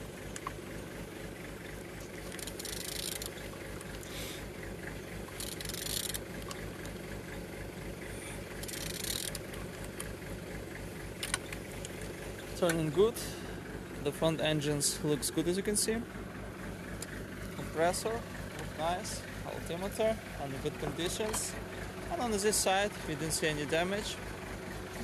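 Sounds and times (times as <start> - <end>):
engine low throb: 0.0 - 25.0.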